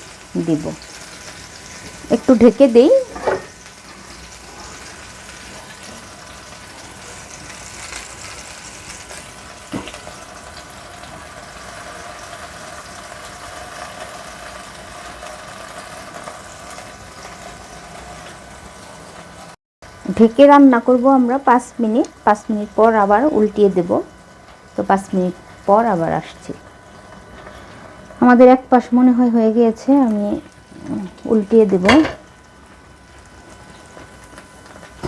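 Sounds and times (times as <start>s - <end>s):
muffled sizzle of frying chicken: 0.0s - 35.0s.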